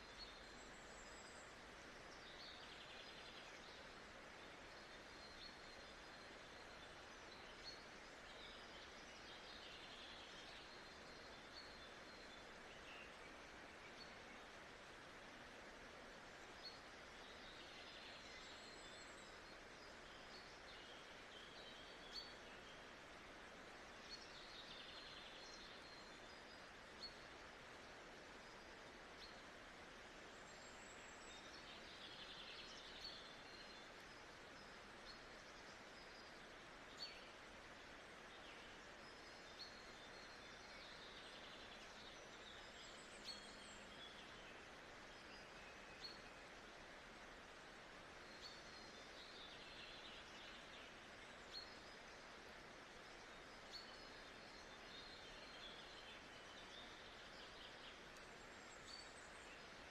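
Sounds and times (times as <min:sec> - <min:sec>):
steady soft hiss: 0:00.0 - 0:59.9.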